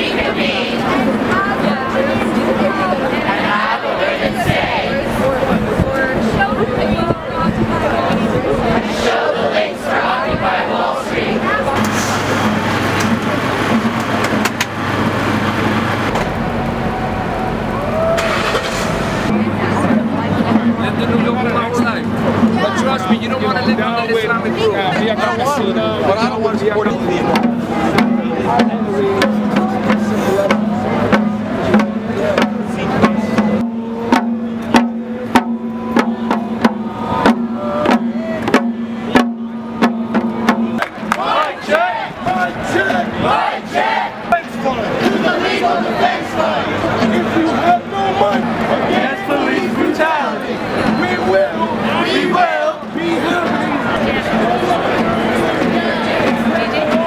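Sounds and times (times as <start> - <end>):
drum beating steadily: 0.0 - 16.9, 19.3 - 57.0
road traffic rumble: 0.0 - 57.0.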